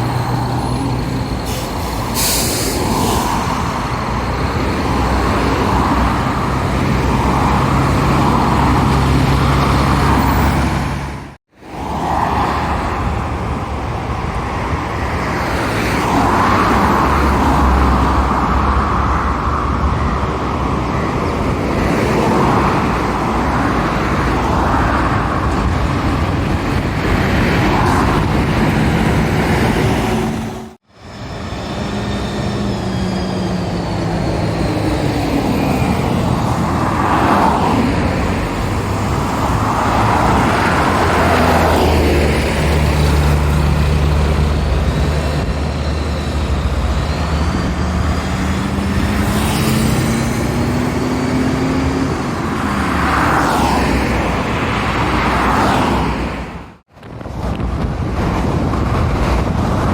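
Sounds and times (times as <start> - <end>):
traffic passing by: 0.0 - 59.9.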